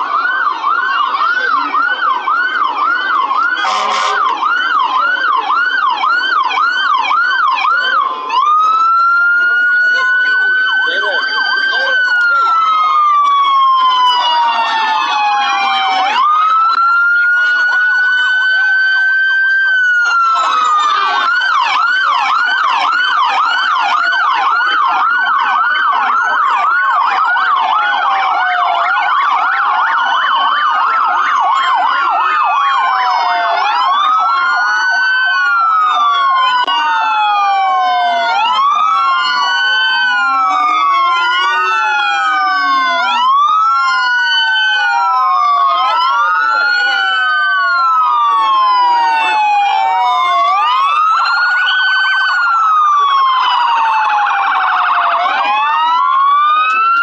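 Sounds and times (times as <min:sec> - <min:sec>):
emergency vehicle sirens: 0:00.0 - 0:57.0.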